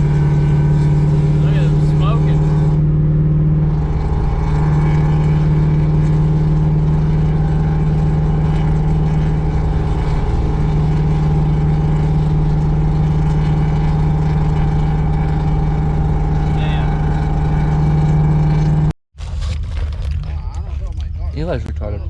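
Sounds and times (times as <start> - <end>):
vehicle engine low drone: 0.0 - 22.0.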